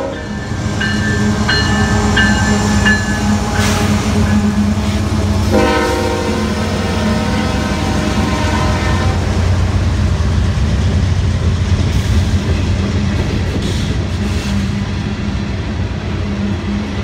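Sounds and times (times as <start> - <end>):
diesel locomotive drone: 0.0 - 17.0
train cars rumbling on rails: 0.0 - 17.0.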